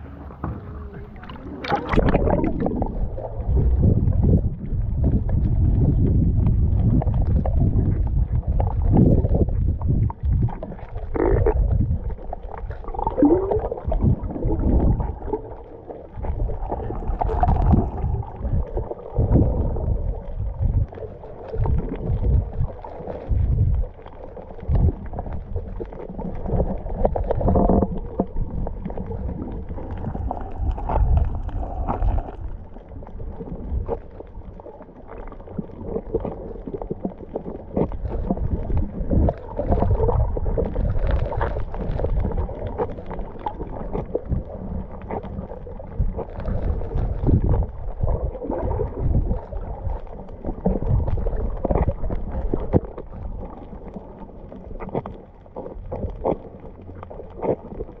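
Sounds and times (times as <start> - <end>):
water sloshing underwater: 0.0 - 58.0.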